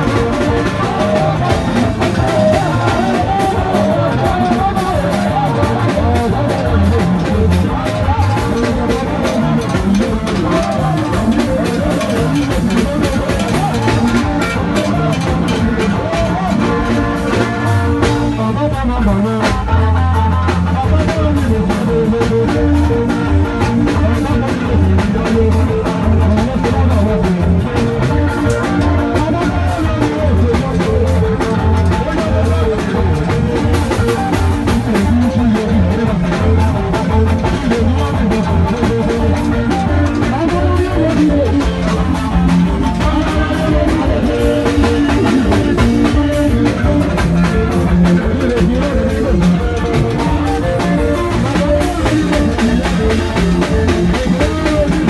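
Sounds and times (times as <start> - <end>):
live rock band: 0.0 - 55.0
man singing into microphone: 0.0 - 55.0.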